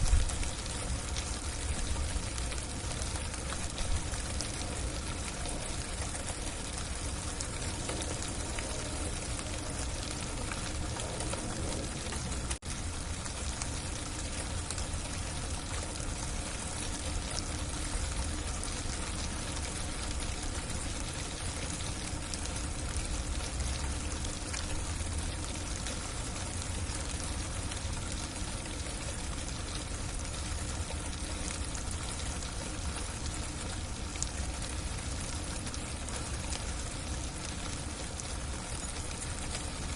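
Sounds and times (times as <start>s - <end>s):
freezing rain hissing: 0.0s - 39.9s.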